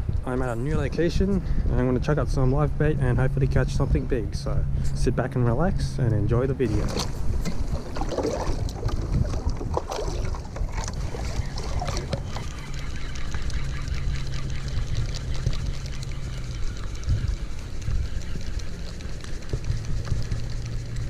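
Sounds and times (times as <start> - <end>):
steady low drone: 0.0 - 21.0
wind on microphone: 0.0 - 21.0.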